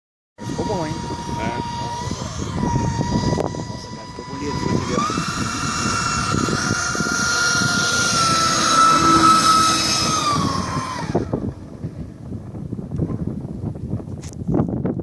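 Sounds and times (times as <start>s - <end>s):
electric ducted fan whining: 0.4s - 15.0s.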